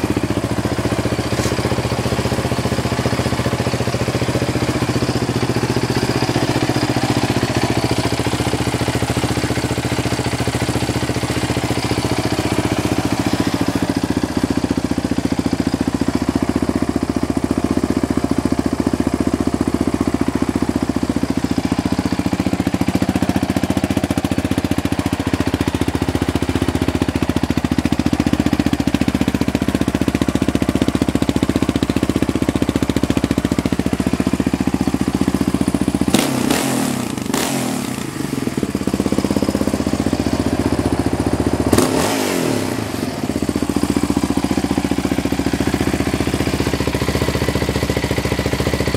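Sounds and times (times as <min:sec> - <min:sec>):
quad bike engine idling: 0:00.0 - 0:48.9.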